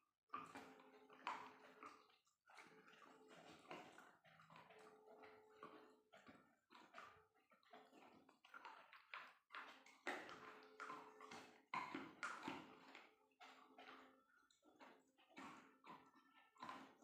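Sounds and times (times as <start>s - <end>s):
treats being chewed: 0.4s - 17.0s.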